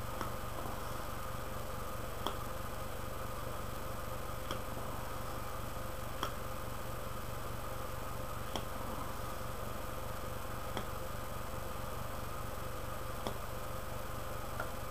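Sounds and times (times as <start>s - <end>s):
electrical hum and hiss: 0.0s - 14.9s.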